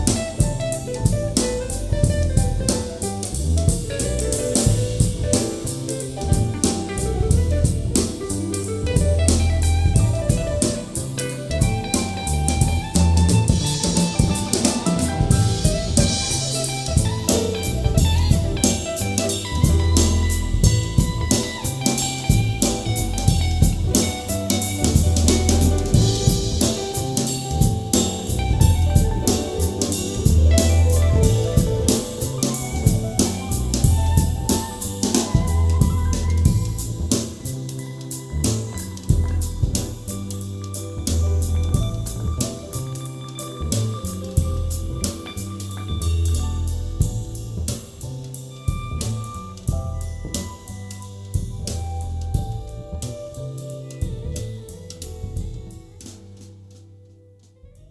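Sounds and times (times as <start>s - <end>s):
soul jazz music: 0.0s - 57.9s.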